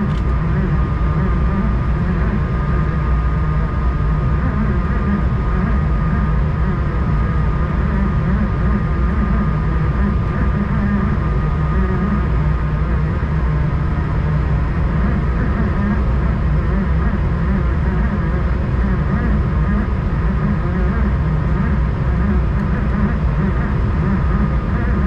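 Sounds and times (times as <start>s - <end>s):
aircraft cabin rumble: 0.0s - 25.0s
thin steady whine: 0.0s - 25.0s.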